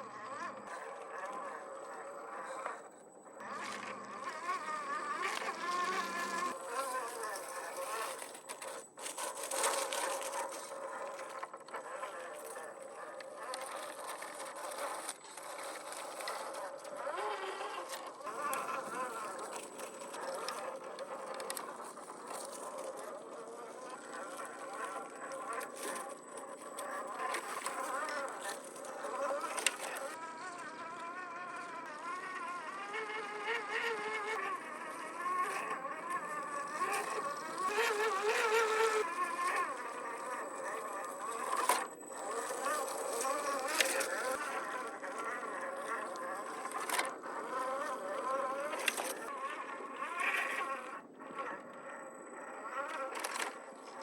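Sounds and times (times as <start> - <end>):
electric motor whining: 0.0 - 54.0.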